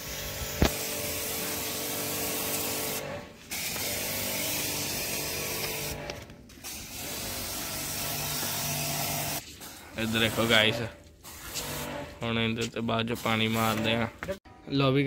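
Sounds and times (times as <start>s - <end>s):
spray gun hissing: 0.0s - 6.0s, 6.6s - 12.0s, 13.0s - 13.9s
pressure pump humming: 0.0s - 12.2s.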